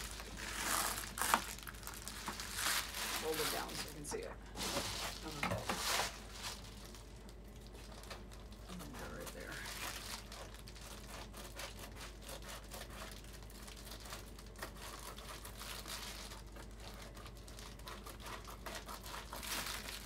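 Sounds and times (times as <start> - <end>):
foil insulation crinkling: 0.0 - 20.0.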